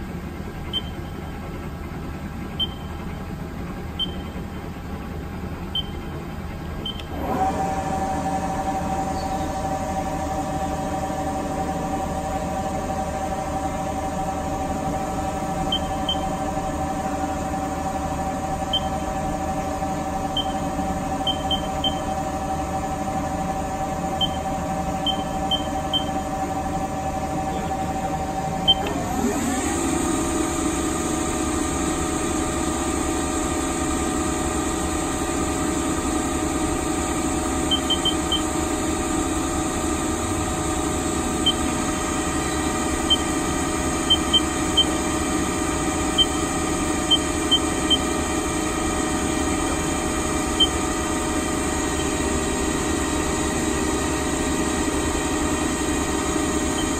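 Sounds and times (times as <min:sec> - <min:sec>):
lathe spindle whining: 0:07.0 - 0:56.9.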